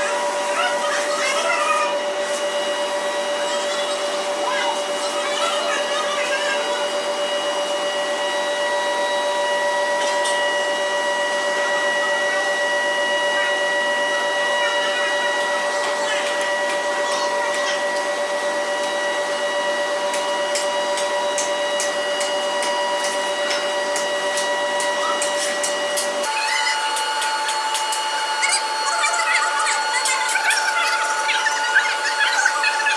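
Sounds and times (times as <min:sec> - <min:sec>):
electric motor whining: 0:00.0 - 0:32.9.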